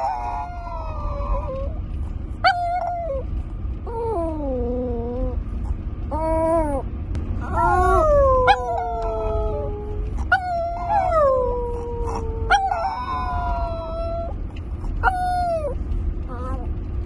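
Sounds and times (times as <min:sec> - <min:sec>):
small dog howling: 0:00.0 - 0:01.8, 0:02.4 - 0:05.4, 0:06.1 - 0:16.7
car cabin road rumble: 0:00.0 - 0:17.0.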